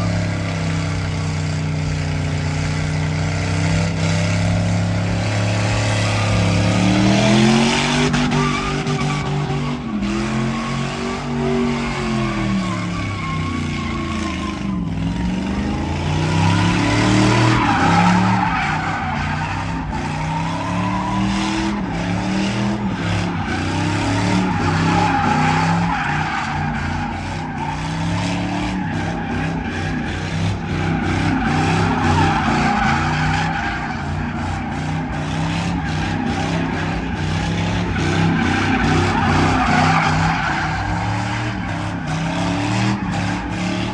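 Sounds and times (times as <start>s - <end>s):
truck engine revving: 0.0s - 43.9s
tyres squealing in burnout: 0.0s - 43.9s.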